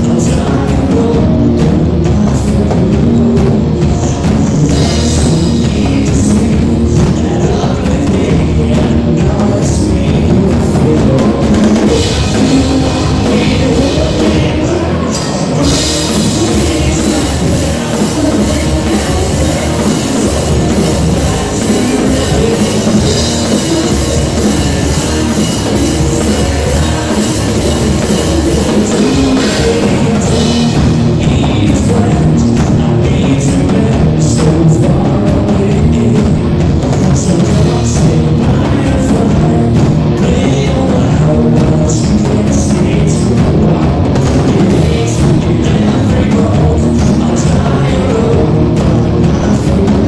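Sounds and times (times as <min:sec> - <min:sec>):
heavy cymbals: 0:00.0 - 0:50.0
loud rock band: 0:00.0 - 0:50.0.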